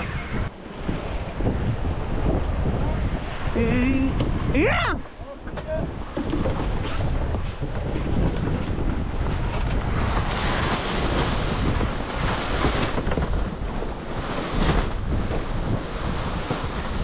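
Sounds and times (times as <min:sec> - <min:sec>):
water rushing along a hull: 0:00.0 - 0:17.0
waves washing past: 0:00.0 - 0:17.0
wind buffeting the microphone: 0:00.0 - 0:17.0.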